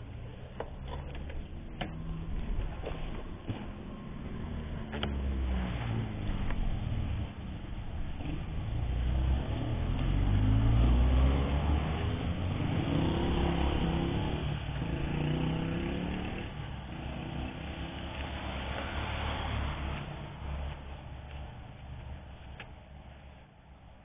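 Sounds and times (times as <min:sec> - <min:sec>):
motorcycle engine accelerating: 0:00.0 - 0:21.4
road and wind noise: 0:00.0 - 0:24.0.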